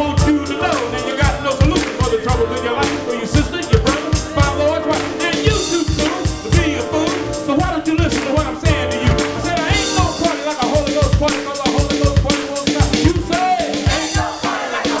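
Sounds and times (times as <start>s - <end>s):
keyboard chords: 0.0s - 14.5s
drum kit beat: 0.0s - 15.0s
person singing: 0.0s - 15.0s.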